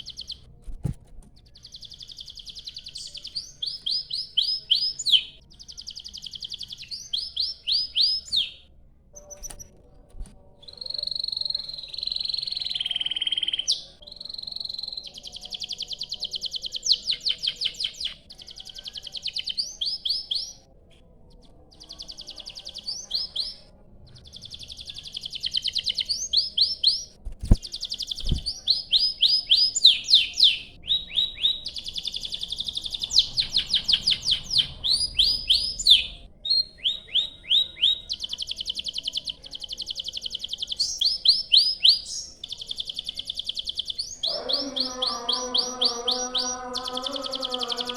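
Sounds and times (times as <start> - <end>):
canary singing trills: 0.0 - 0.6, 1.4 - 9.8, 10.5 - 20.7, 21.4 - 47.9.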